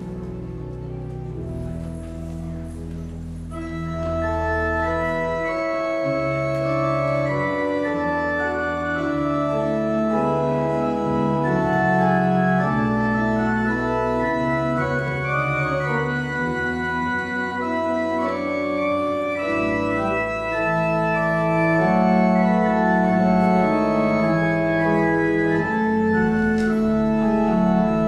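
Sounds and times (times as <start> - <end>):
church organ chords: 0.0 - 28.0.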